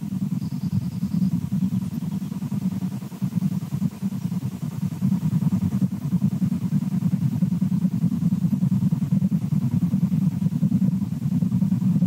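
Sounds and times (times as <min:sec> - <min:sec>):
low fluttering rumble: 0:00.0 - 0:12.0.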